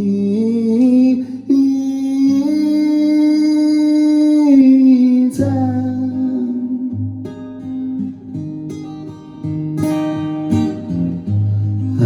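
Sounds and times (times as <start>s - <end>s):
acoustic guitar strummed: 0.0s - 12.0s.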